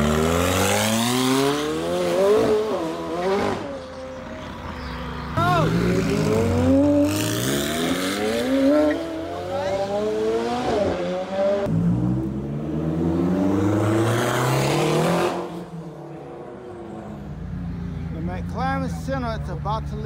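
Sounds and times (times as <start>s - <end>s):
car engines accelerating hard: 0.0s - 20.0s.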